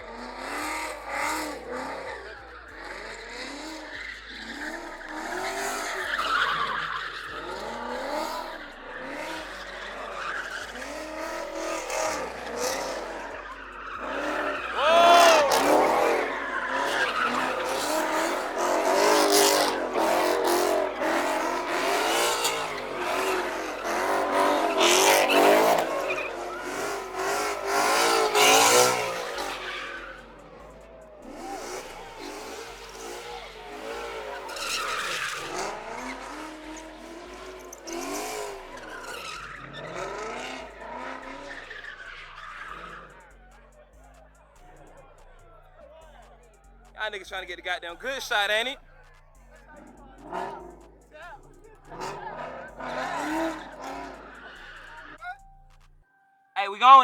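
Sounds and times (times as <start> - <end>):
car engines running: 0.0 - 56.0
car tyres squealing: 0.0 - 56.1.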